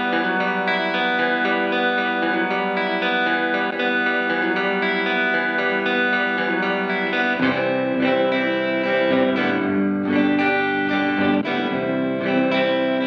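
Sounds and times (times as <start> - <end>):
electric guitar with delay and reverb: 0.0 - 13.0.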